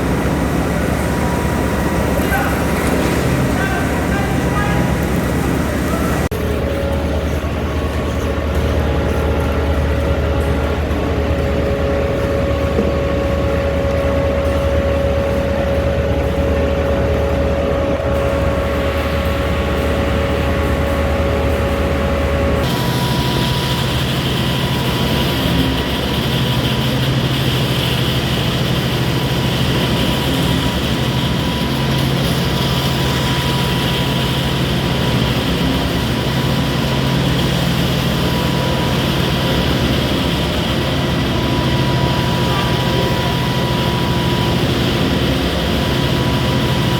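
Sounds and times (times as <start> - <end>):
construction machinery engines: 0.0 - 46.9
engine with hiss: 0.0 - 46.9.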